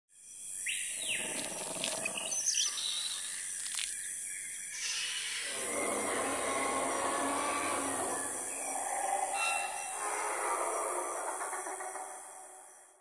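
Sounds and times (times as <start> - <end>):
bird calls and chirps: 0.2 - 13.0.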